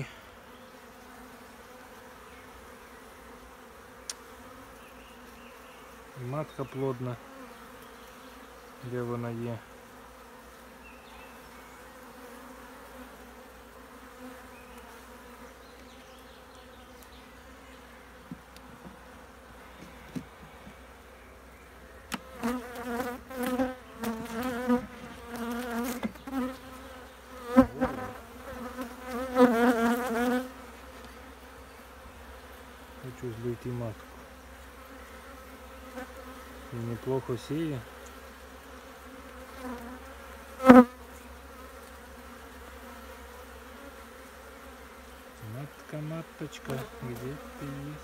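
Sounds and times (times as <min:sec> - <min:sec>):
honeybees buzzing: 0:00.0 - 0:48.0.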